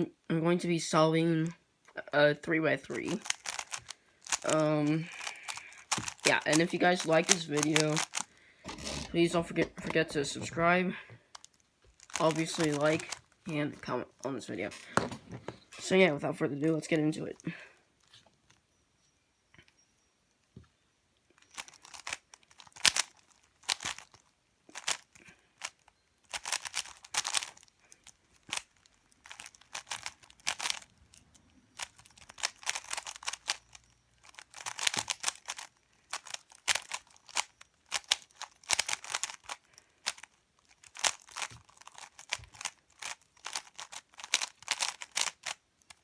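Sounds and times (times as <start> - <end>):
puzzle cube clicking and scraping: 2.3 - 17.4, 21.4 - 46.0.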